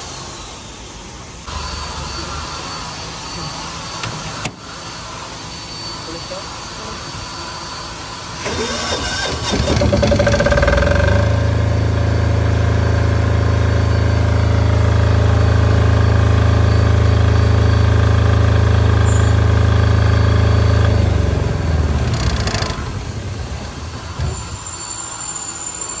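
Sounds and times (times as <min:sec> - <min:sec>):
diesel generator running: 0:00.8 - 0:26.0.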